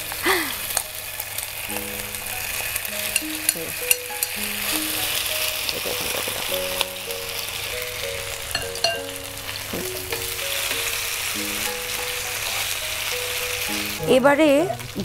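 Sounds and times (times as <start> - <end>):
chicken sizzling in frying pan: 0.0 - 15.0
soft background music: 0.0 - 15.0.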